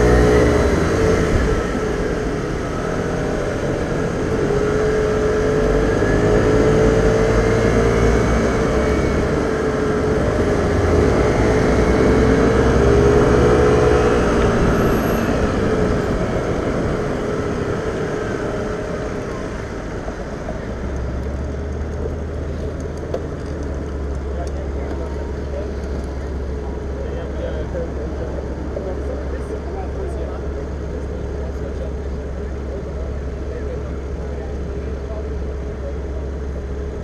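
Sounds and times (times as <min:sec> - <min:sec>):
low traffic rumble: 0:00.0 - 0:37.0
scooter engine whining: 0:00.0 - 0:37.0.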